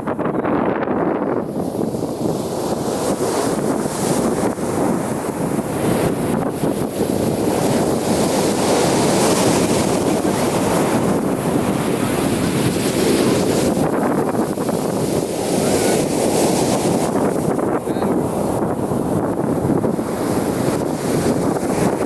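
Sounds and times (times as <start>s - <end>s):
wind rumbling on microphone: 0.0s - 22.0s
ocean surf breaking: 1.1s - 22.0s.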